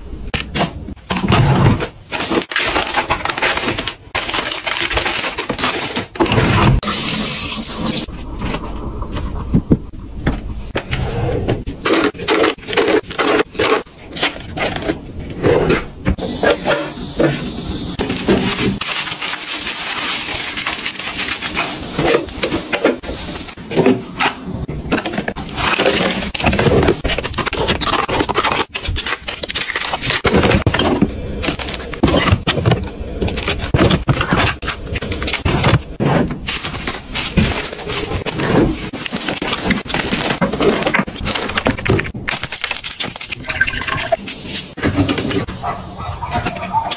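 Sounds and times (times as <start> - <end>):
packets clicking and crinkling: 0.3 - 6.8, 11.7 - 15.8, 18.0 - 45.5.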